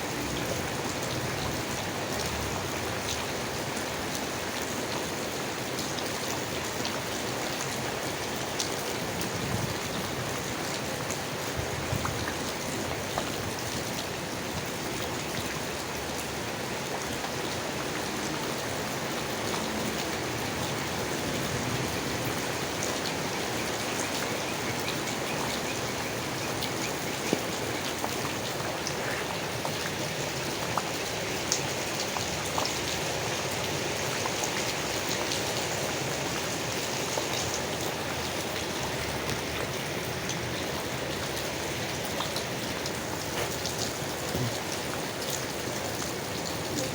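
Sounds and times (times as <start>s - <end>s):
rain falling on leaves: 0.0s - 46.9s.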